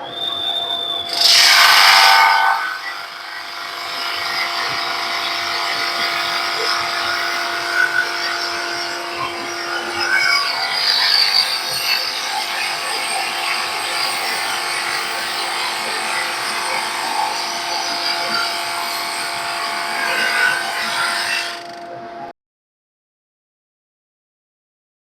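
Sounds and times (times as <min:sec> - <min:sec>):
sander motor hum: 0:00.2 - 0:22.2
sanding drum hiss: 0:00.7 - 0:21.6.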